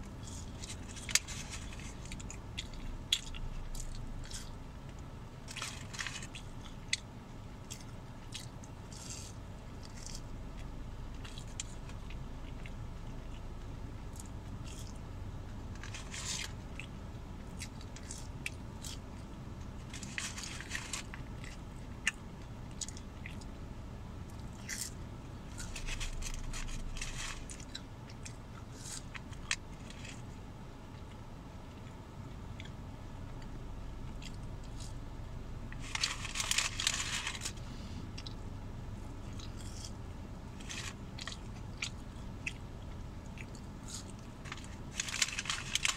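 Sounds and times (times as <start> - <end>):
person chewing crunchy fries: 0.0 - 45.9
steady low hum: 0.0 - 45.9.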